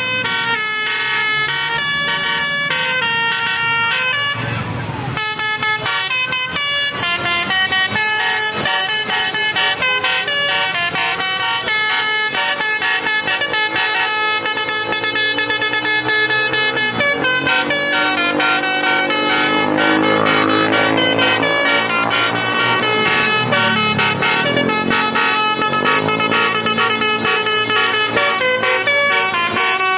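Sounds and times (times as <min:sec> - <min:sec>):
multi-tone bus horn melody: 0:00.0 - 0:29.9
low sliding horn tones: 0:05.6 - 0:29.9.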